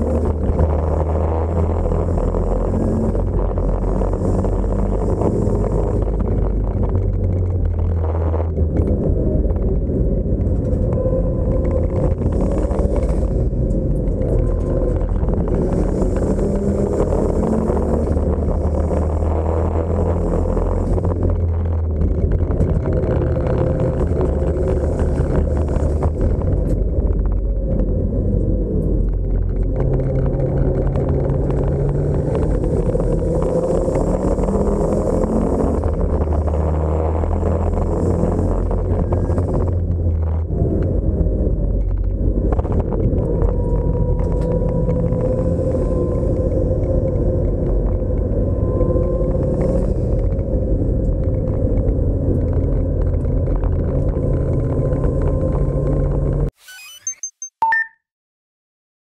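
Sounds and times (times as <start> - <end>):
car engine running hard: 0.0 - 56.5
road and wind noise: 0.0 - 56.6.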